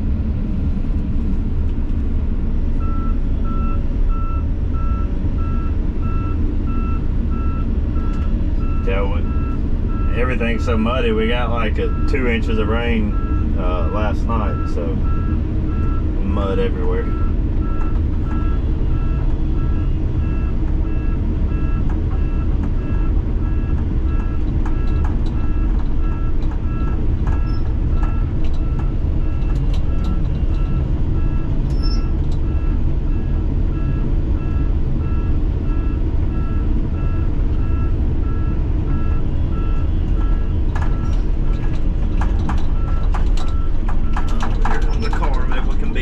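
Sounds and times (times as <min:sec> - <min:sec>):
heavy diesel engine running: 0:00.0 - 0:46.0
backup alarm beeping: 0:02.8 - 0:46.0.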